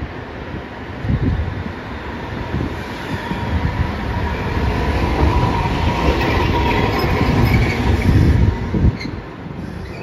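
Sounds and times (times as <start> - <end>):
streetcar wheels rumbling on rail: 0.0 - 10.0.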